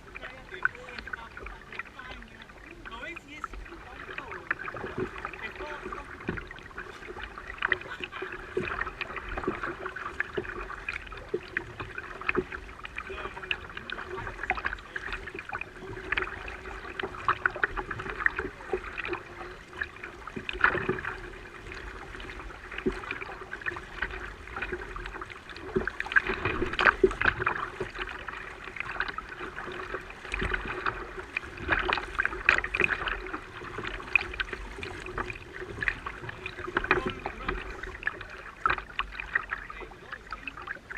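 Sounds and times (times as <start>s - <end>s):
water lapping against a hull: 0.0s - 40.9s.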